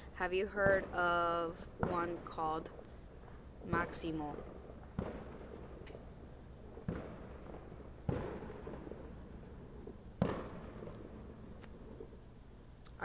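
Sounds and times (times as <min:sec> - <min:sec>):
fireworks booming: 0:00.0 - 0:12.8.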